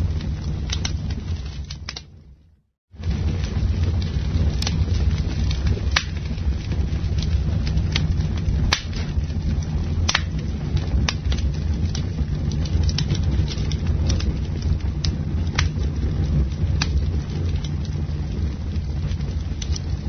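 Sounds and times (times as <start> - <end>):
wood pops and crackles: 0.0 - 2.4, 3.0 - 20.0
low rumble of flames: 0.0 - 20.0.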